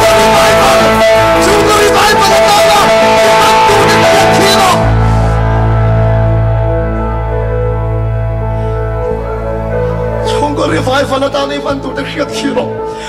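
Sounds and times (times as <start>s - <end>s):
sustained ringing chord: 0.0s - 12.1s
guitar: 0.0s - 13.0s
worship band playing loudly: 0.0s - 13.0s.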